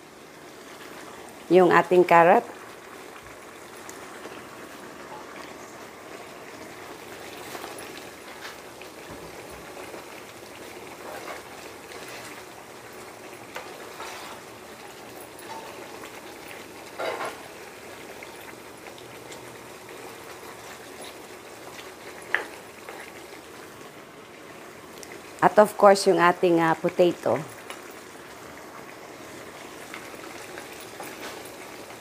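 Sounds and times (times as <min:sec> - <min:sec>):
thick sauce simmering: 0:00.0 - 0:01.5, 0:02.4 - 0:25.4, 0:27.5 - 0:32.0.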